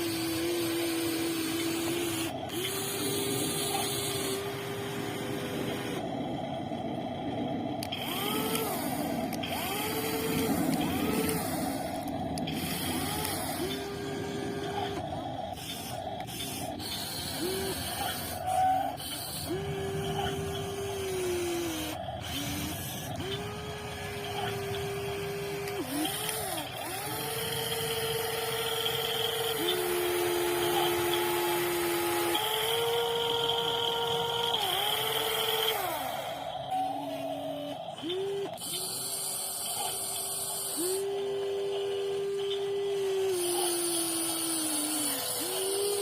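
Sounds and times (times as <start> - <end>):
electric motors whining: 0.0 - 46.0.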